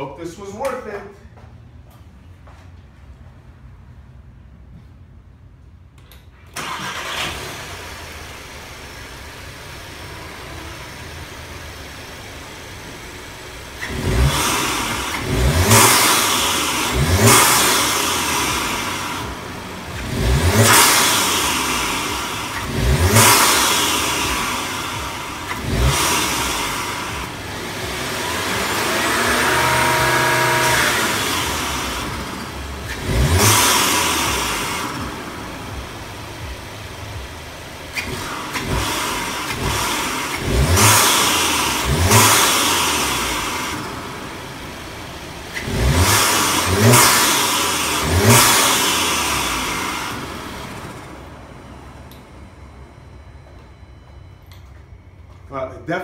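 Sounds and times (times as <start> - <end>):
car engine starting and idling: 0.0 - 56.0
engine revving: 6.5 - 52.6.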